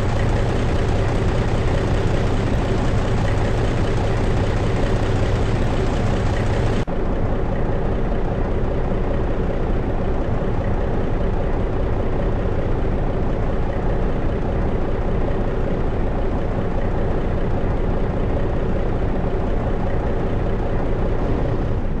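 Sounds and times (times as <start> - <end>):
diesel truck engine idling: 0.0 - 21.7.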